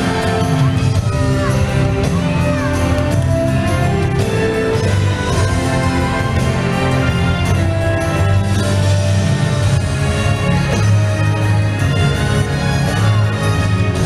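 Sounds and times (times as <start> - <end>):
music over sound system: 0.0 - 14.0.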